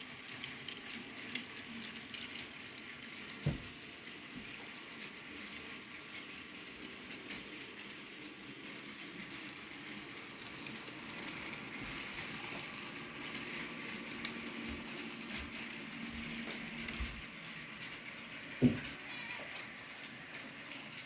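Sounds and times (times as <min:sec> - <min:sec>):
model train rolling whir: 0:00.0 - 0:21.0
wheels clicking over rails: 0:00.0 - 0:21.0.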